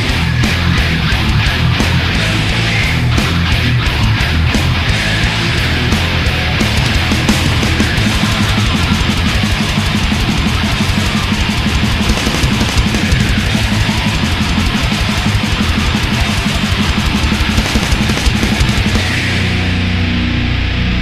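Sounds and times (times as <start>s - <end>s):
fast drumming with cymbals: 0.0s - 19.9s
distorted electric guitars: 0.0s - 21.0s.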